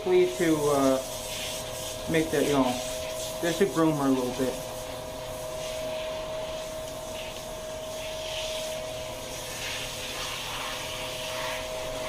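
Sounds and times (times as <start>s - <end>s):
shower spray hissing on fur: 0.0s - 12.0s
steady hum: 0.0s - 12.0s.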